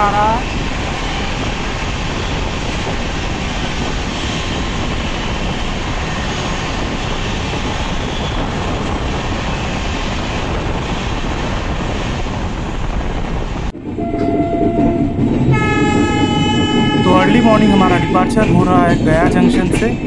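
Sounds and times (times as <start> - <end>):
rush of wind: 0.0 - 20.0
wheel-on-rail noise: 0.0 - 20.0.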